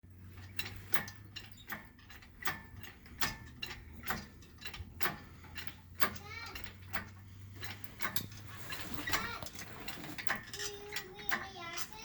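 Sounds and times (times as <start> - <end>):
metal mechanism clicking: 0.4 - 12.0.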